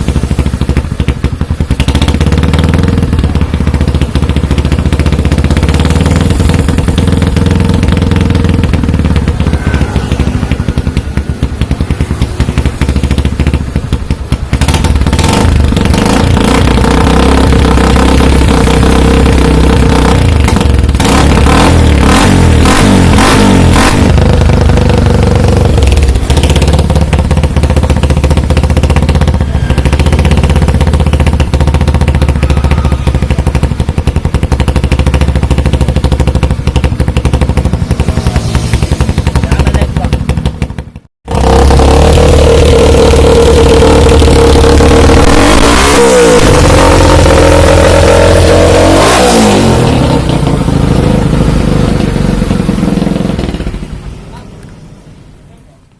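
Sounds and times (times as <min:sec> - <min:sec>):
motorcycle engine revving and idling: 0:00.0 - 0:55.9.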